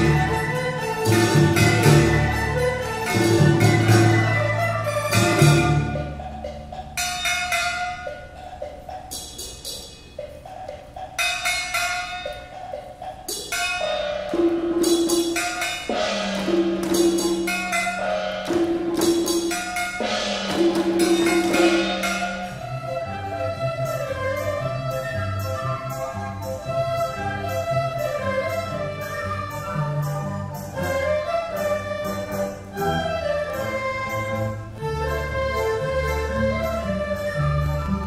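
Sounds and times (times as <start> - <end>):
traditional orchestra playing: 0.0 - 9.0, 13.5 - 38.0
percussion strikes: 0.0 - 38.0.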